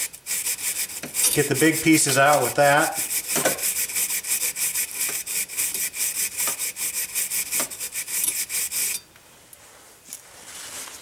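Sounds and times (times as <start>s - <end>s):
brush scrubbing inside metal bore: 0.0s - 9.1s.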